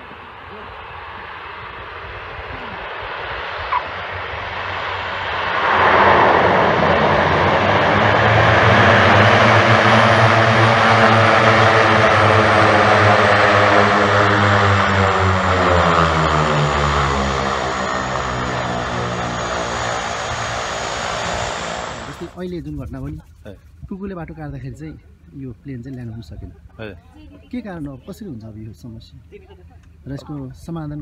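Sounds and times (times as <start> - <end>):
turboprop plane propeller drone: 0.0 - 31.0.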